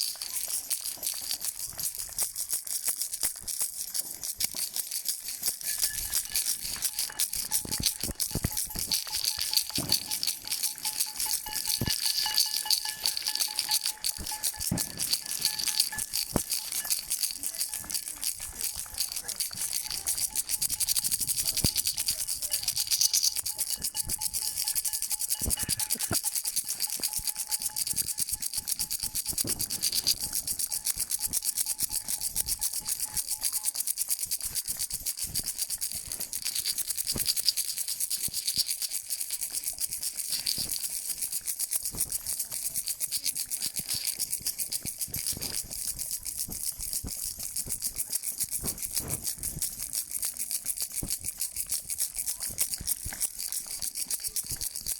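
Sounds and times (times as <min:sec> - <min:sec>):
hand rattle shaken fast: 0:00.0 - 0:54.9.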